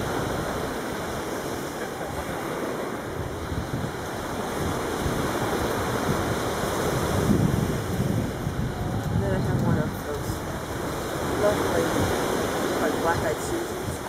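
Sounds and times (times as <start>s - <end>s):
small waves rushing: 0.0s - 14.0s
wind on microphone: 0.0s - 14.0s.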